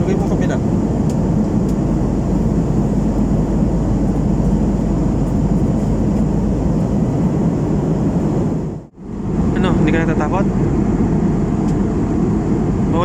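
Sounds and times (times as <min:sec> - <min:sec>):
jet airliner cabin noise in flight: 0:00.0 - 0:13.0.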